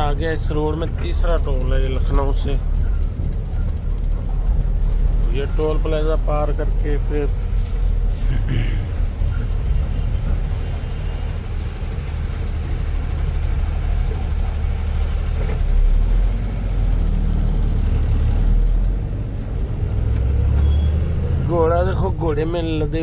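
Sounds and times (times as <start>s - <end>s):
truck diesel engine from cab: 0.0s - 23.0s.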